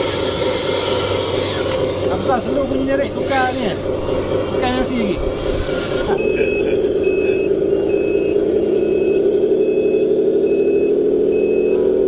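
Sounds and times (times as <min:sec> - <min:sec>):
diesel engine drone: 0:00.0 - 0:12.0
reversing beeper: 0:00.0 - 0:12.0.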